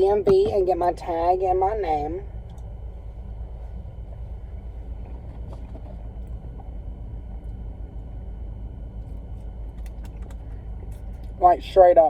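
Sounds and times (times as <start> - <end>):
car rumble inside cabin: 0.0 - 12.0.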